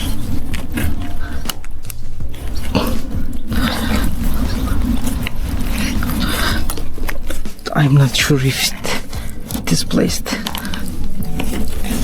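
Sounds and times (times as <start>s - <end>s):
low rumble: 0.0s - 12.0s
pipe rubbing scrapes: 0.0s - 12.0s.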